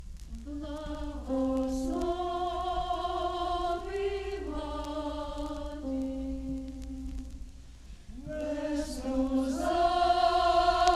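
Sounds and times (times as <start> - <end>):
low steady hum: 0.0 - 10.9
choir singing chords: 0.3 - 7.4, 8.1 - 10.9.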